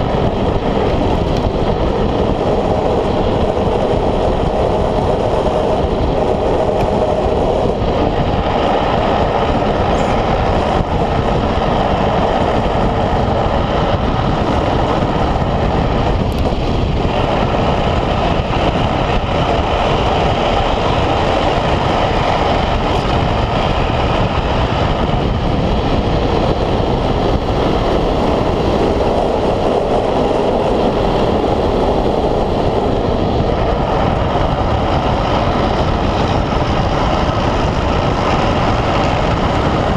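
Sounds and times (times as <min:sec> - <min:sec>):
wheels rolling on asphalt: 0:00.0 - 0:39.9
wind rushing: 0:00.0 - 0:39.9.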